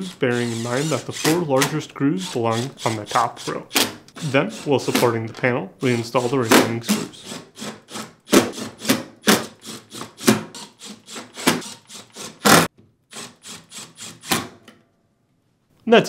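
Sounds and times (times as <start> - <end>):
cordless drill driving screws: 0.0 - 5.1, 5.8 - 14.4.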